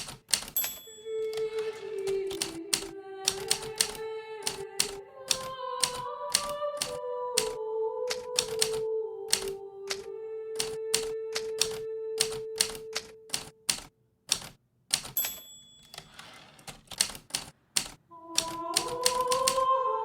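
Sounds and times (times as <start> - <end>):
typewriter keys striking: 0.0 - 10.0, 10.6 - 19.6.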